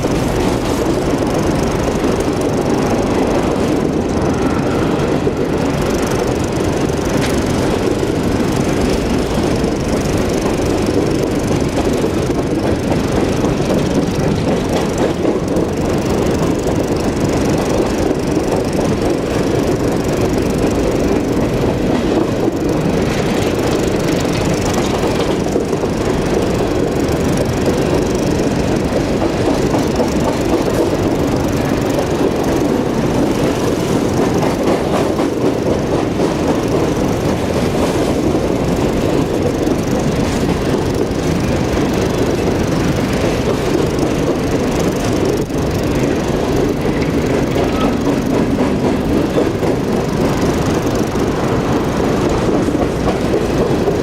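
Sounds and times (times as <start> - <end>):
steel train wheels rumbling and clattering: 0.0 - 54.0.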